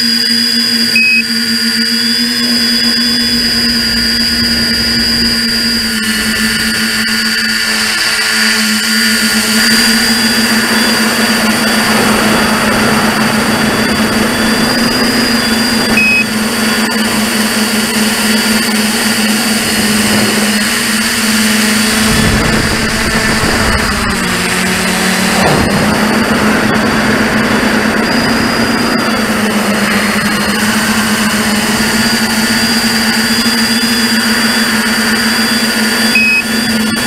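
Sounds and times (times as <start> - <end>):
electric motors and propellers whining: 0.0 - 37.0
rush of propeller wash: 2.3 - 35.5.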